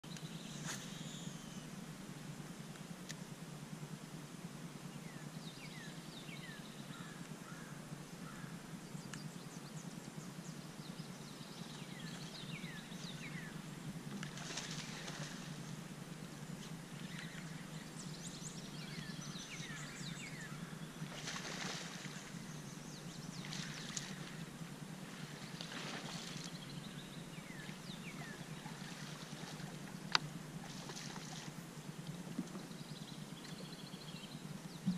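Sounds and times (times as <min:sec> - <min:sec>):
steady low hum: 0:00.0 - 0:34.9
birds chirping: 0:05.0 - 0:34.9.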